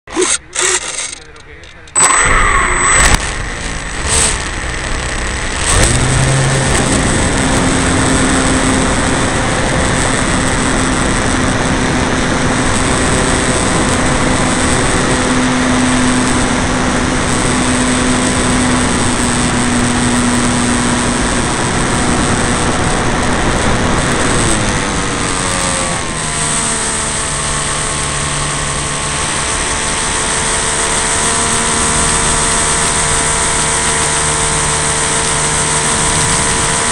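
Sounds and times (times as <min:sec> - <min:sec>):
model airplane engine: 0:00.1 - 0:36.9.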